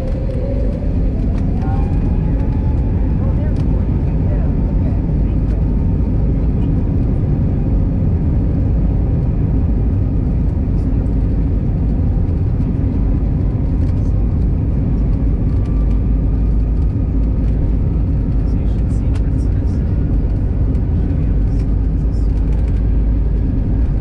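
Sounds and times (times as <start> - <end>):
cabin rumble of taxiing jet: 0.0 - 24.0
faint jet engine whine: 0.0 - 24.0.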